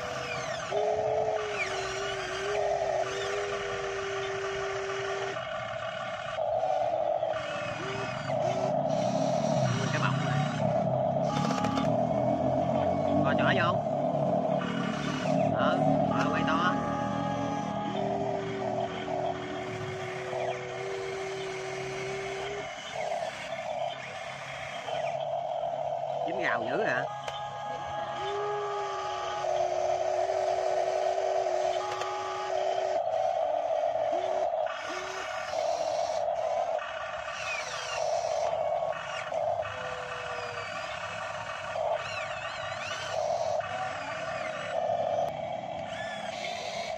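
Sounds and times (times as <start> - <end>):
high motor whine: 0.0 - 46.9
model excavator motors running: 0.0 - 46.9.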